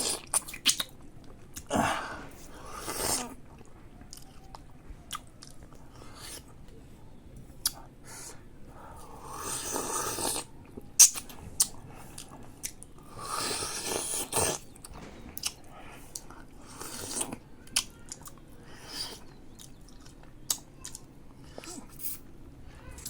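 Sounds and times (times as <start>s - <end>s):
person chewing: 0.0s - 6.6s, 9.0s - 22.3s.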